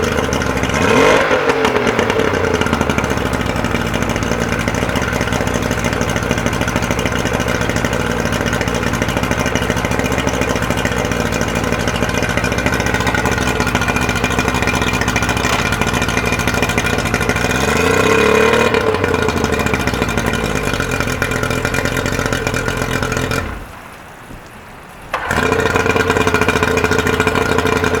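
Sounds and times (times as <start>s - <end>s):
outboard motor running: 0.0s - 23.8s, 25.1s - 28.0s.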